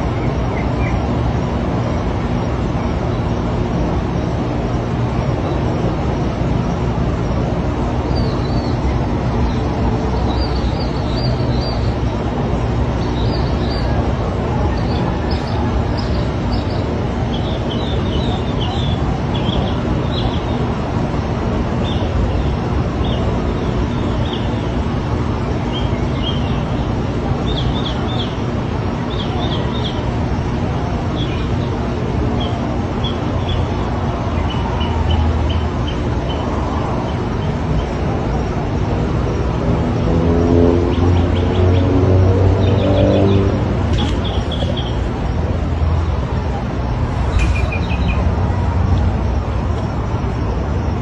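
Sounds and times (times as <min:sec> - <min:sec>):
birds chirping: 0:00.0 - 0:04.2, 0:05.0 - 0:39.2, 0:40.6 - 0:48.7
steady rushing noise: 0:00.0 - 0:51.0.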